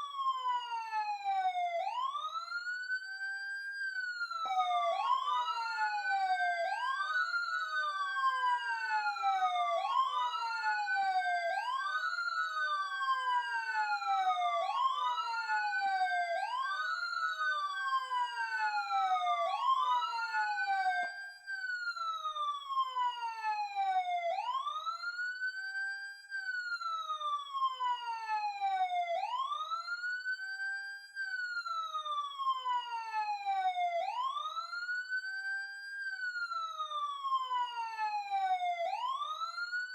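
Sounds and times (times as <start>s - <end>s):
police sirens wailing: 0.0s - 2.6s, 4.1s - 21.1s, 22.0s - 25.3s, 26.7s - 30.3s, 31.6s - 35.2s, 36.3s - 39.9s.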